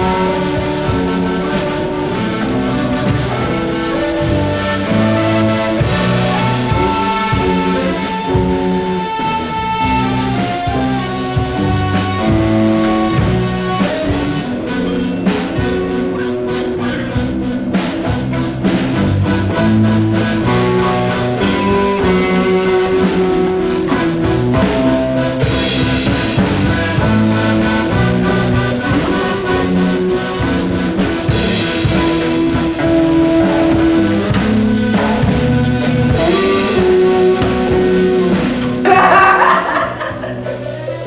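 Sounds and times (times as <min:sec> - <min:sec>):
drum kit: 0:00.0 - 0:41.0
guitar: 0:00.0 - 0:41.0
held melody notes: 0:00.0 - 0:41.0.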